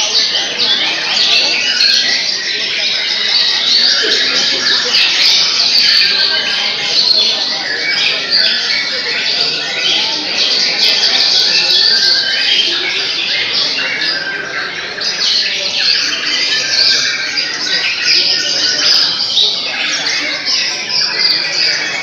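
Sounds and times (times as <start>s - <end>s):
chorus of birds singing: 0.0s - 22.0s.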